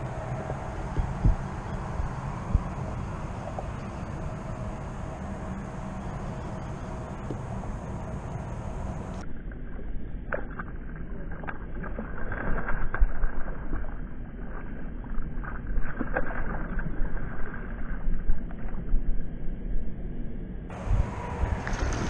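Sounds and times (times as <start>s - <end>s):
water moving around boat: 0.0s - 19.6s, 20.7s - 22.0s
wind on microphone: 0.0s - 19.6s, 20.7s - 22.0s.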